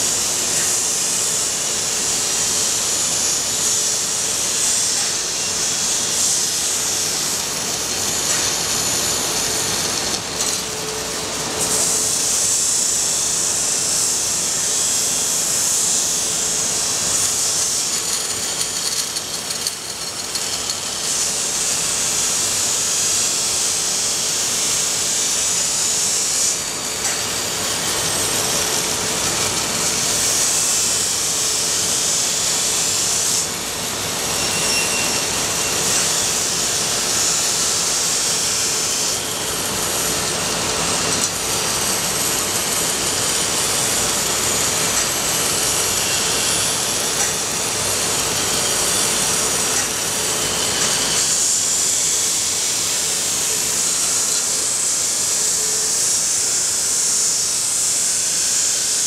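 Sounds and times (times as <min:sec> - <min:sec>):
power tool running: 0:00.0 - 0:59.0.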